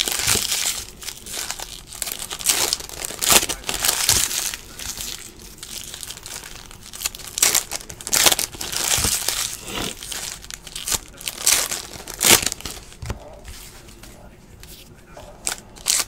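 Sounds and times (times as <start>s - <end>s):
foil wrapper crinkling: 0.0s - 13.6s, 15.4s - 16.0s.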